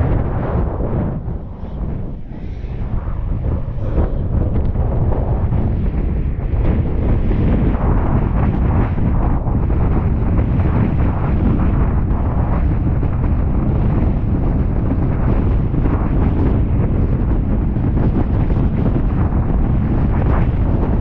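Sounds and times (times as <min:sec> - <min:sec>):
strong wind on microphone: 0:00.0 - 0:21.0.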